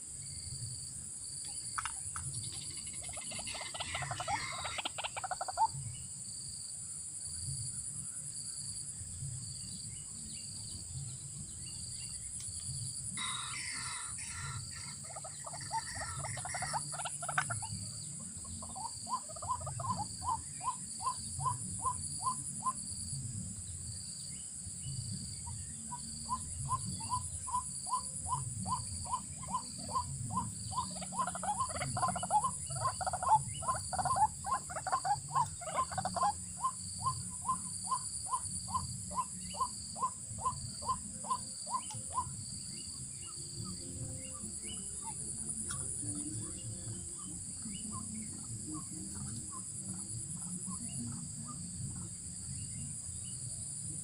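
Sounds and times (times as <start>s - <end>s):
bird hoarse rhythmic calls: 1.5s - 6.1s, 9.6s - 23.0s, 24.4s - 54.0s.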